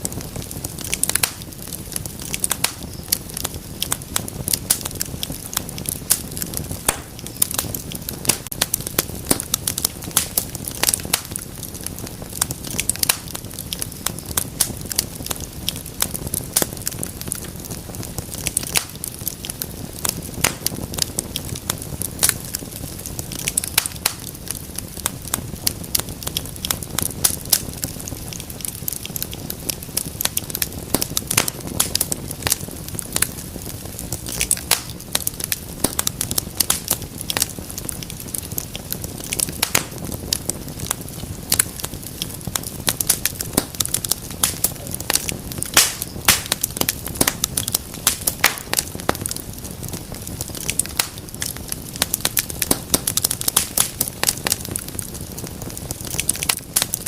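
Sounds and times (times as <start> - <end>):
rush of flames: 0.0 - 57.0
wood fire popping and snapping: 0.0 - 57.0.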